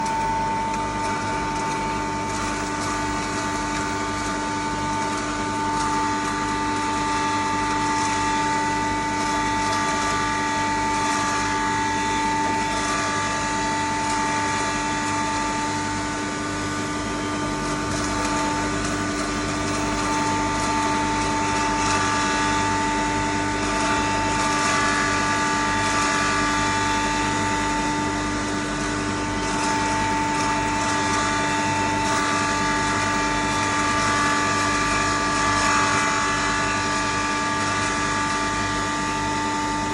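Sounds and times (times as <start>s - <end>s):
grinder machine hum: 0.0s - 39.9s
strong steady whine: 0.0s - 39.9s.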